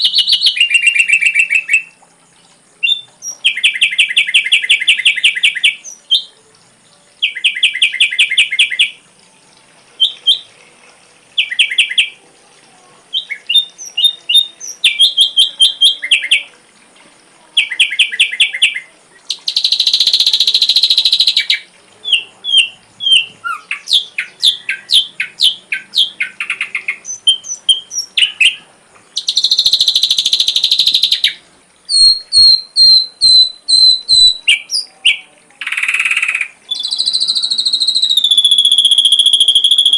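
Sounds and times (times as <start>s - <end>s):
bird song with mimicked calls: 0.0s - 9.0s, 10.0s - 10.6s, 11.4s - 12.2s, 13.1s - 16.5s, 17.6s - 39.9s.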